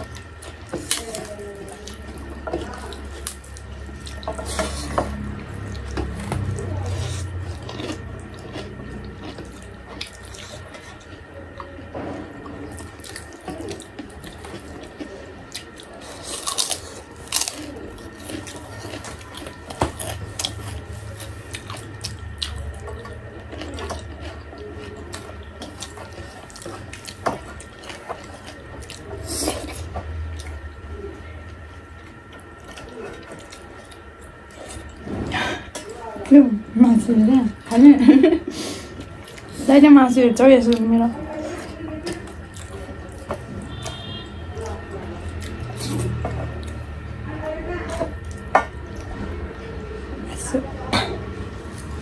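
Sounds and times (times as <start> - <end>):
chewing and lip smacking: 0.0 - 36.3, 40.6 - 47.2, 47.8 - 49.6.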